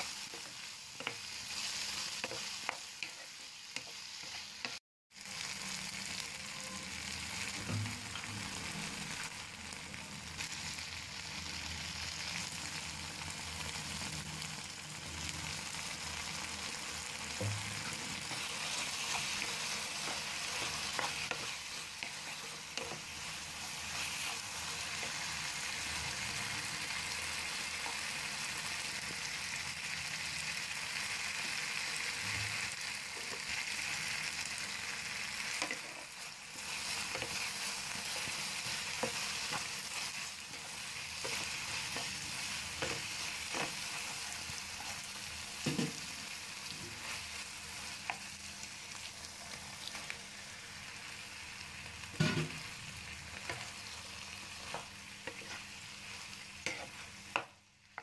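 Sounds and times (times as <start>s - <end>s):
vegetables sizzling in frying pan: 0.0s - 58.0s.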